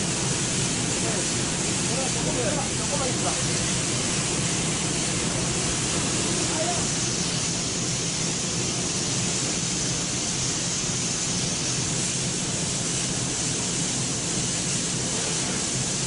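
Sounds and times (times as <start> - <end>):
machine hissing over low hum: 0.0 - 16.0.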